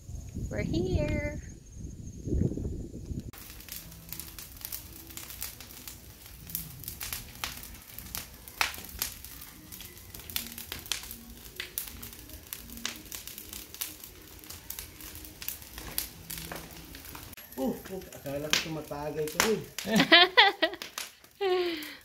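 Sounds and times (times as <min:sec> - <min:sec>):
faint low music: 0:00.0 - 0:20.2
fire crackling and popping: 0:02.4 - 0:22.0.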